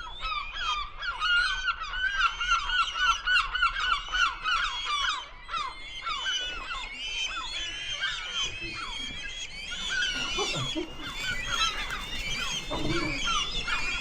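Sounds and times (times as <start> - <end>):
flock of birds calling: 0.0 - 14.0.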